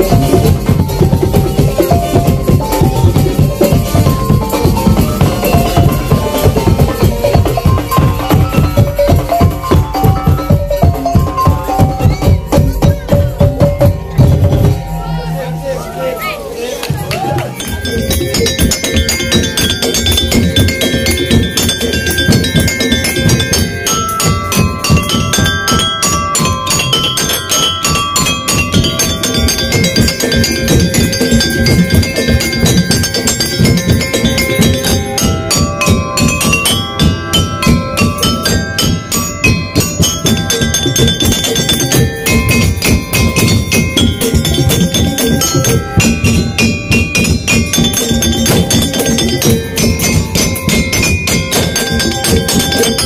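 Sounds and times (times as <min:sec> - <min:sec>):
knocking percussion: 0:00.0 - 0:15.2, 0:16.8 - 0:53.0
drums playing fast beat: 0:00.0 - 0:53.0
tuned percussion melody: 0:00.0 - 0:53.0.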